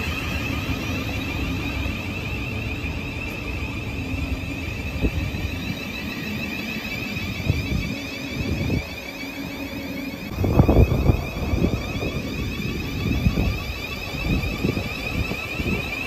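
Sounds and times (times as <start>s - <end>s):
electric train whine: 0.0s - 16.0s
wheels rumbling on rail: 0.0s - 16.0s.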